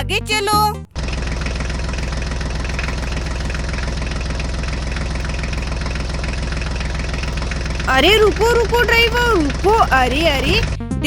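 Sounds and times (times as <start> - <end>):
tractor engine running: 0.9 - 11.0.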